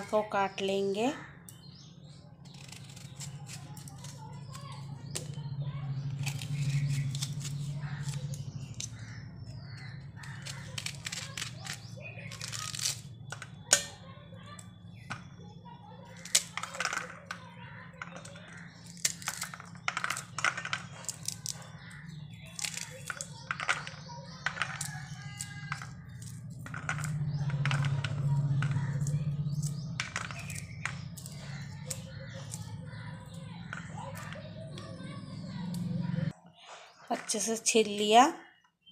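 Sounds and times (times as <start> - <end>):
knife peeling fruit rind: 2.4 - 14.7, 16.0 - 36.2.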